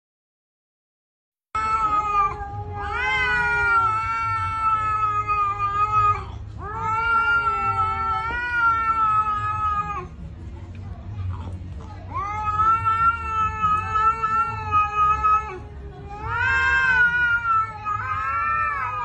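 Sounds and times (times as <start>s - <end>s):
cat yowling: 1.6s - 10.2s, 12.1s - 19.0s.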